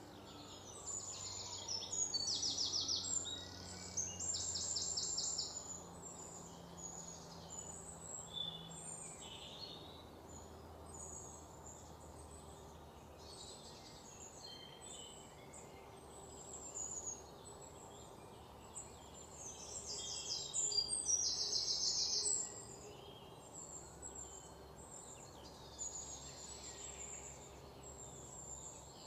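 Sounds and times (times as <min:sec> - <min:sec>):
birds chirping and singing: 0:00.0 - 0:29.0
faint background noise: 0:00.0 - 0:29.0.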